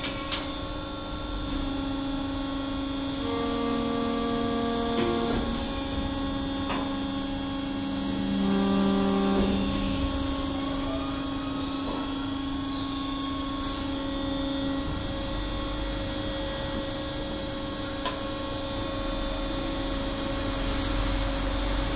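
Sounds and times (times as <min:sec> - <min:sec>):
conveyor machine hum: 0:00.0 - 0:21.9.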